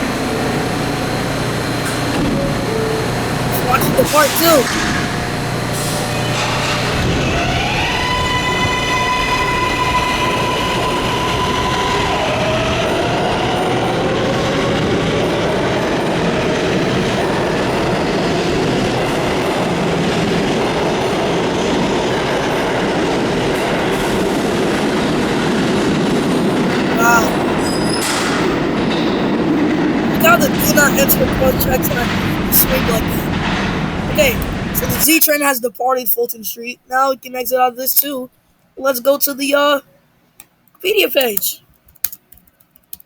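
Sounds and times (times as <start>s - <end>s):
train motor whine: 0.0s - 35.1s
wheels rumbling on rails: 0.0s - 35.2s.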